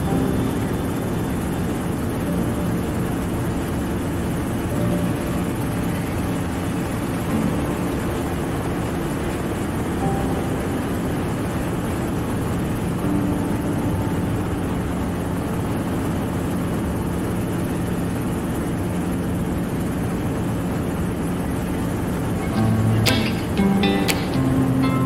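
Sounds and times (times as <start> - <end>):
helicopter engine and rotor drone: 0.0 - 25.0.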